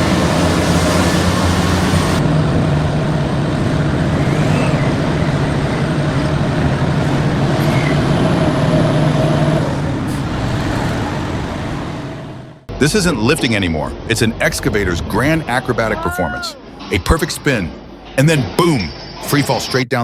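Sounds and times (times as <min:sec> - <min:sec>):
heavy machinery engine droning: 0:00.0 - 0:19.7.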